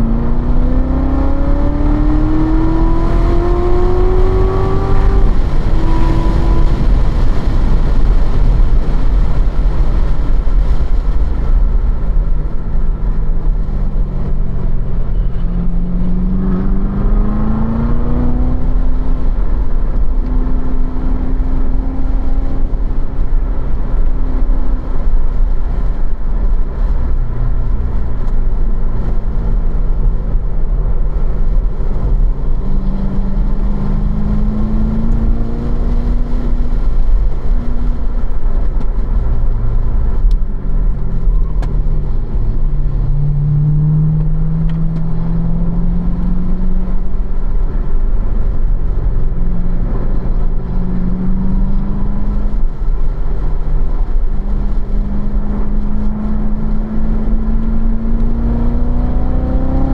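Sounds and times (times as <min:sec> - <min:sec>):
car engine accelerating: 0:00.0 - 0:59.9
low road rumble: 0:00.0 - 0:59.9.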